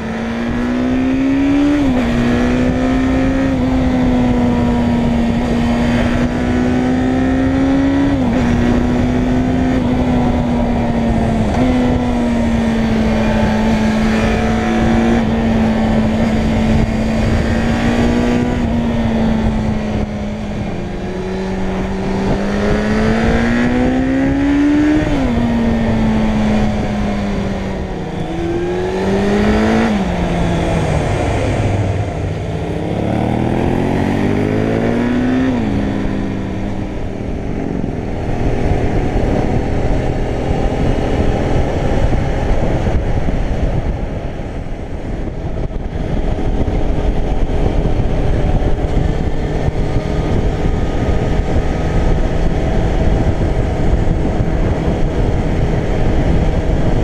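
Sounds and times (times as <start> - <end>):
motorcycle engine shifting gears: 0.0 - 57.0
wind rush on microphone: 0.0 - 57.0.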